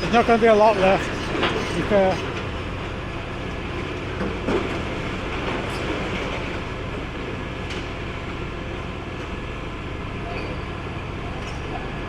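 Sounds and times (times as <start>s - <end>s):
excavator diesel engine running: 0.0s - 10.2s.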